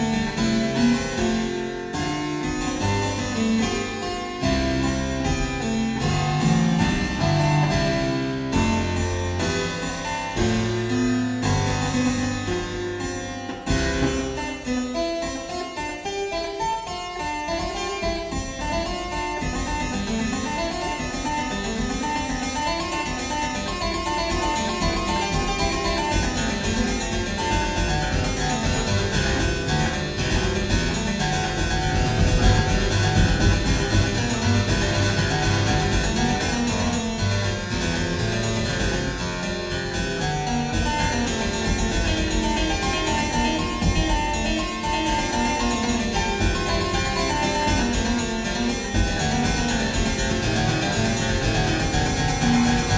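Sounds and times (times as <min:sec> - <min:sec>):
keyboard playing a fugue: 0:00.0 - 0:52.9.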